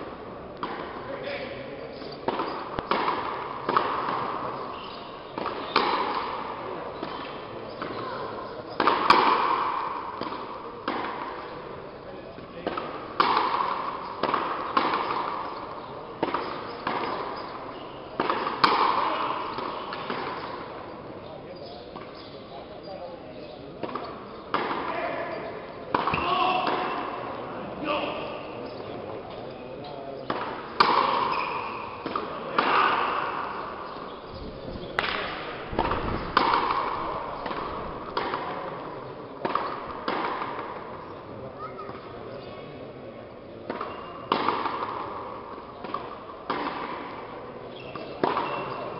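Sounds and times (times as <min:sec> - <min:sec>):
ball hitting wall with echo: 0:00.5 - 0:01.4, 0:02.1 - 0:21.2, 0:23.5 - 0:29.1, 0:30.2 - 0:41.2, 0:43.6 - 0:48.9.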